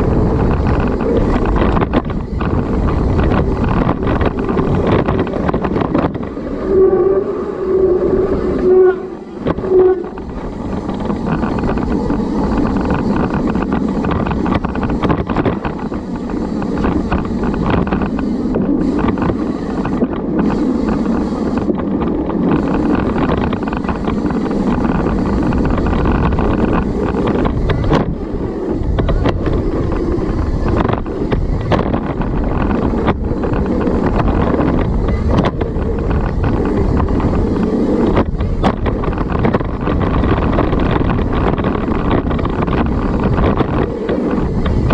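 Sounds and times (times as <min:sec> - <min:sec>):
knocks and rattles over bumps: 0:00.0 - 0:06.6, 0:09.3 - 0:44.9
bike tyres on dirt trail: 0:00.0 - 0:44.9
wind rushing on microphone: 0:00.0 - 0:44.9.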